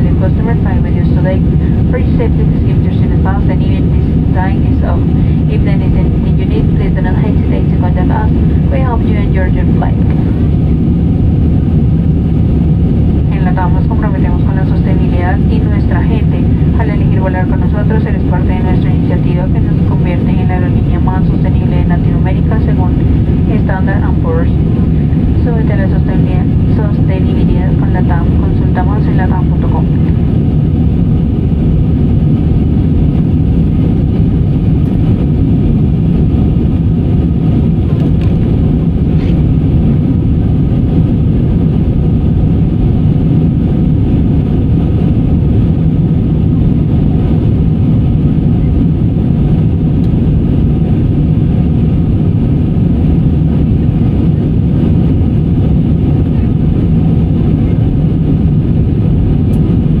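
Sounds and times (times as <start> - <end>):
airliner cabin engine rumble: 0.0 - 60.0.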